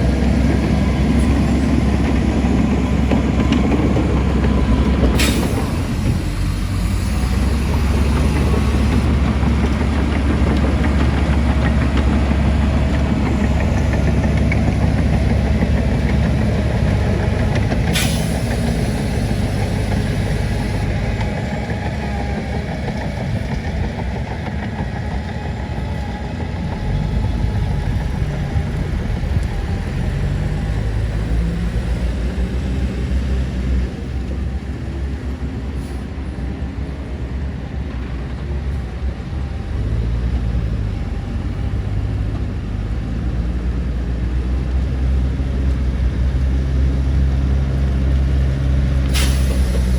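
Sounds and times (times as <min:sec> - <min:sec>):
construction machinery engine rumble: 0:00.0 - 0:49.9.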